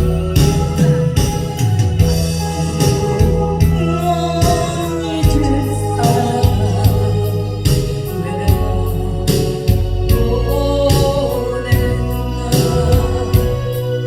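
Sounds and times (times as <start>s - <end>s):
electronic organ chords: 0.0s - 14.0s
held bass line: 0.0s - 14.0s
steady drum beat: 0.0s - 14.0s.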